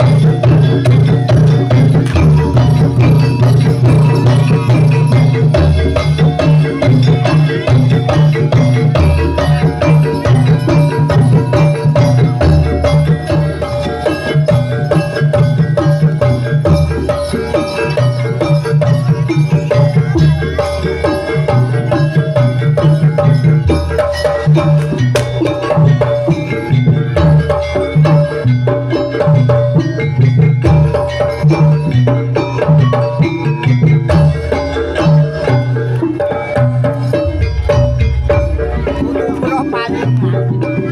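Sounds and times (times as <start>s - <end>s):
drums beating: 0.0s - 40.9s
gongs and metallophones ringing: 0.0s - 40.9s.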